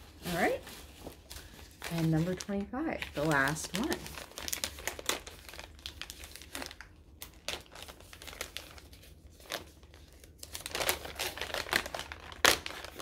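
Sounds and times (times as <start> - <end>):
gift wrapping crinkling: 0.0 - 13.0.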